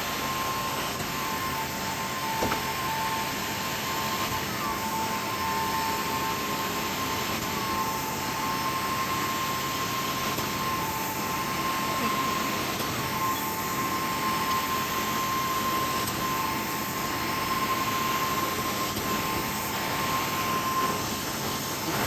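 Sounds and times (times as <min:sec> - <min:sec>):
carpet cleaning machine running: 0:00.0 - 0:22.0.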